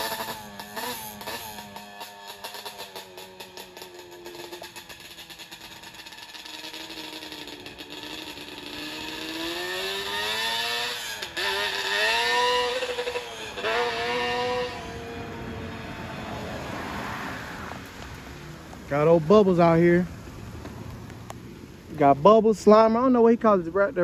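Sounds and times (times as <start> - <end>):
vehicle engine accelerating hard: 0.0 - 22.1.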